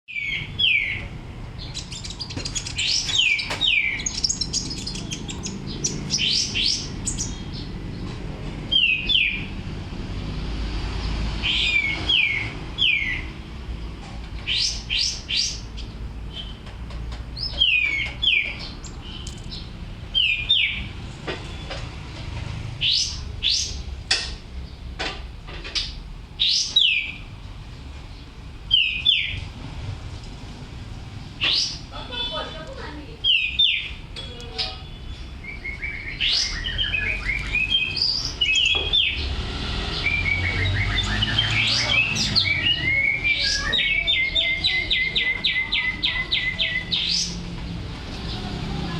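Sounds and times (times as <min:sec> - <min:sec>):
songbird singing: 0:00.1 - 0:29.7, 0:31.2 - 0:48.9.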